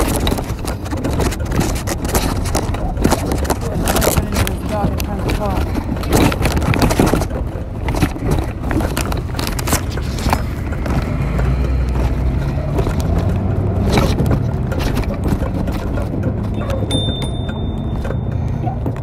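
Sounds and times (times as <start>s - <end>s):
bicycle rattling over joints: 0.0s - 19.0s.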